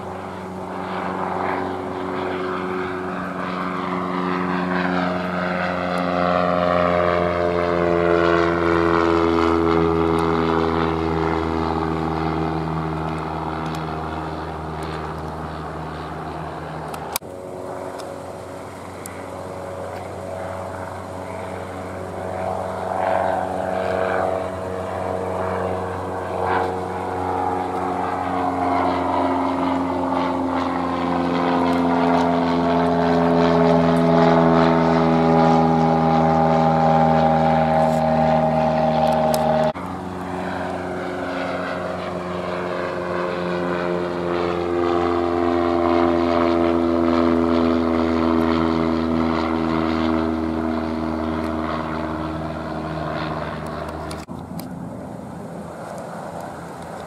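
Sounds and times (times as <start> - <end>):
light plane engine drone: 0.0 - 57.0.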